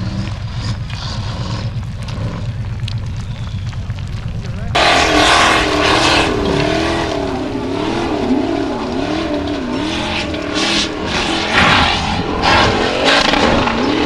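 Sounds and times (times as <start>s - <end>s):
buggy engine revving: 0.0s - 14.0s
spraying gravel hiss: 0.0s - 14.0s.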